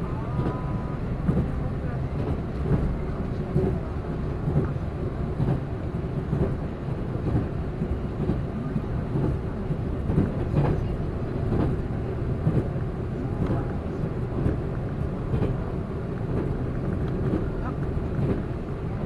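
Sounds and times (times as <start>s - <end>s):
train rumble from inside carriage: 0.0s - 19.0s.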